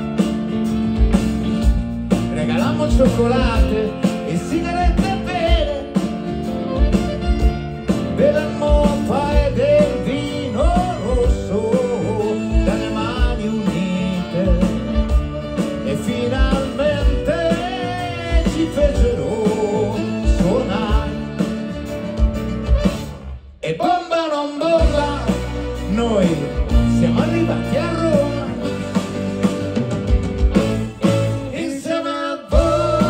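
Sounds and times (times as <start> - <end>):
piano: 0.0 - 23.4, 24.6 - 33.0
bass guitar: 0.0 - 24.0, 24.6 - 33.0.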